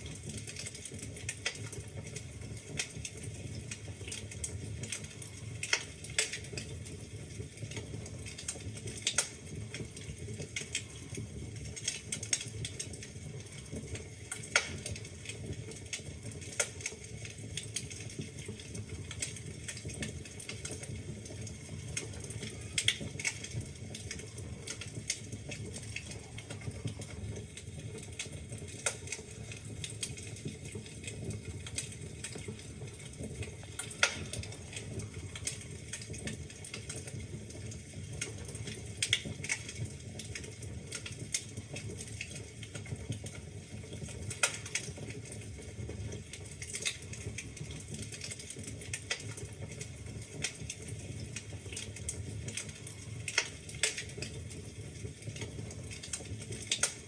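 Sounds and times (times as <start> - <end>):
wood fire burning: 0.0 - 57.0.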